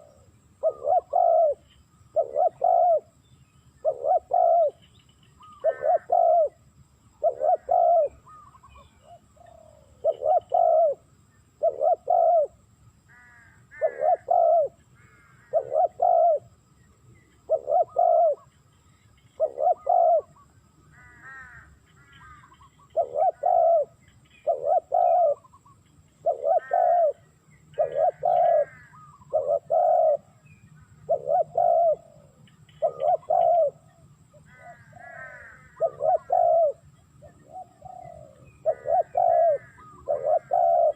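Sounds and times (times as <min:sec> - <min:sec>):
dove cooing: 0:00.0 - 0:03.1, 0:03.8 - 0:06.6, 0:07.2 - 0:12.6, 0:13.7 - 0:16.6, 0:17.3 - 0:18.7, 0:19.3 - 0:40.9
faint high chirping: 0:00.0 - 0:13.0, 0:13.8 - 0:20.9, 0:21.5 - 0:35.0, 0:35.6 - 0:40.9.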